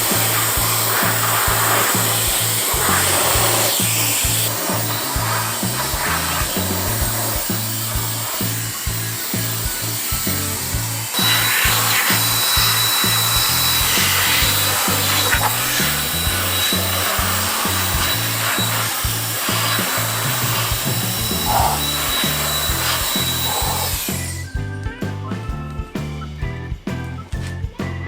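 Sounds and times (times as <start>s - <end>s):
handheld fan blowing: 0.0s - 24.6s
high motor whine: 0.0s - 24.6s
background music with beat: 0.0s - 28.0s.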